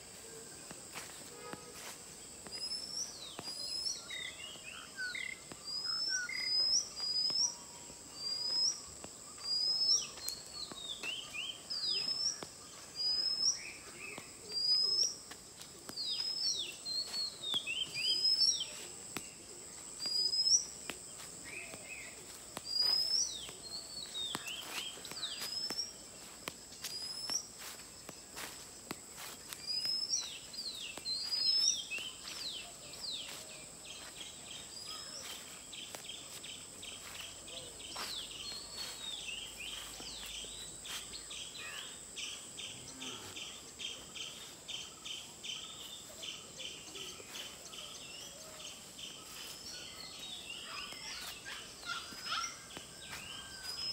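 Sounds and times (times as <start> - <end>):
birds chirping and whistling: 1.8 - 15.3, 15.9 - 53.9.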